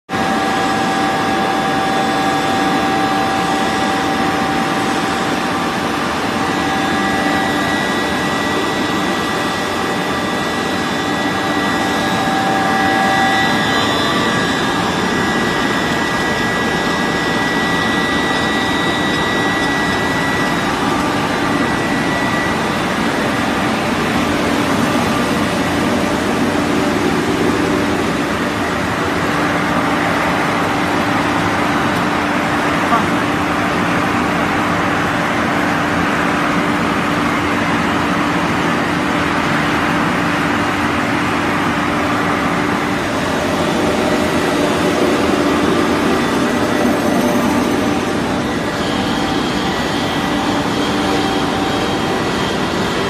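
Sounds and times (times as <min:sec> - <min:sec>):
loud machine noise: 0:00.0 - 0:53.0
steady machine whining tones: 0:00.1 - 0:53.0.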